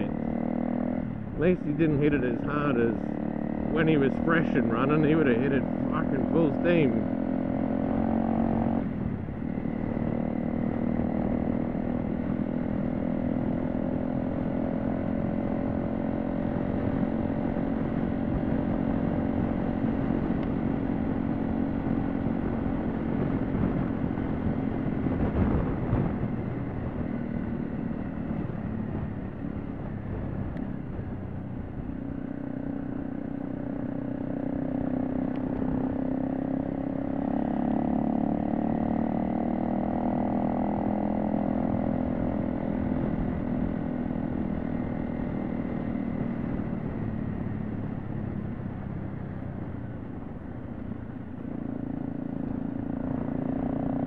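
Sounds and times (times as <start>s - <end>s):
motorcycle engine running: 0.0s - 54.0s
wind: 0.0s - 54.0s.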